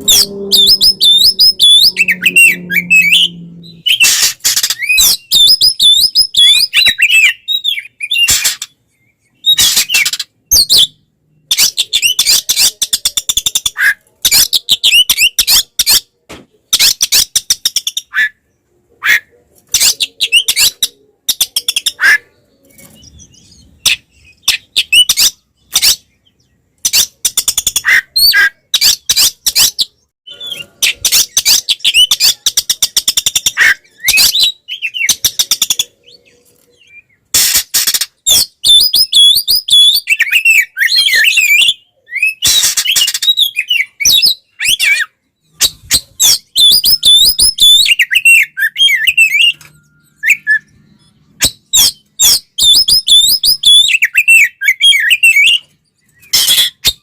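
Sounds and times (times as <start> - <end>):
magpie-robin singing: 0.0 - 16.1, 16.7 - 57.0.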